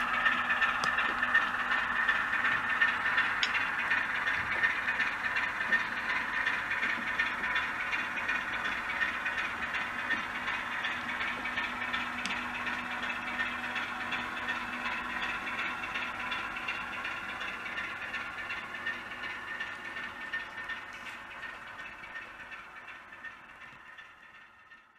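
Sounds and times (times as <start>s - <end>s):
model wheels clattering on track: 0.0s - 24.7s
diesel engine sound from speakers: 0.0s - 24.9s.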